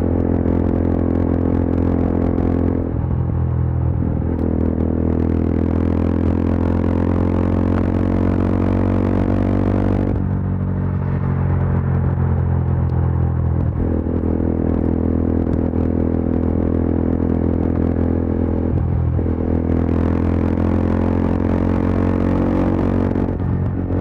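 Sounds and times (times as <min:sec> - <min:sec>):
motorcycle engine and exhaust: 0:00.0 - 0:24.0.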